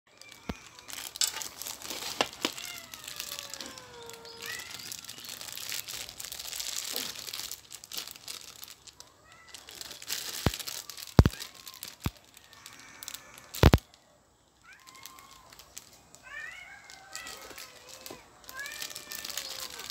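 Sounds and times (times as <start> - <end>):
cats meowing: 0.1 - 14.0, 14.6 - 19.9
plastic bag crinkling: 0.1 - 14.0, 14.6 - 19.9.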